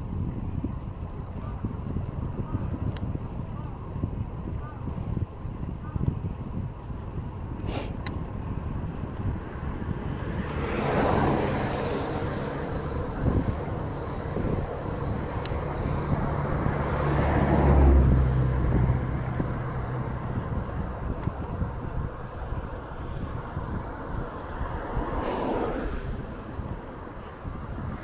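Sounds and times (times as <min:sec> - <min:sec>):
motor vehicles passing: 0:00.0 - 0:28.0
wind rumble on microphone: 0:00.0 - 0:28.0.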